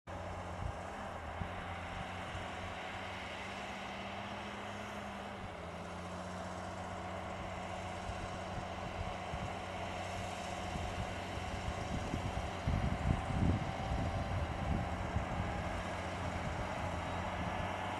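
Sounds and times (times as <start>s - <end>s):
vehicle engine running: 0.1s - 17.9s.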